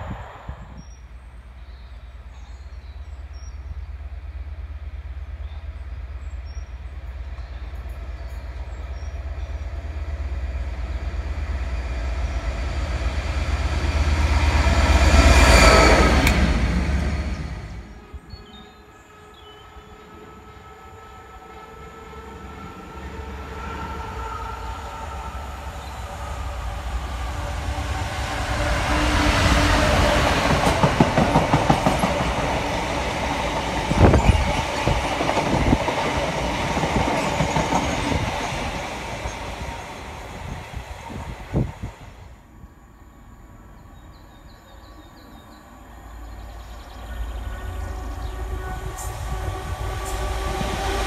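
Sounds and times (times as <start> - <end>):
diesel locomotive engine: 0.0 - 51.0.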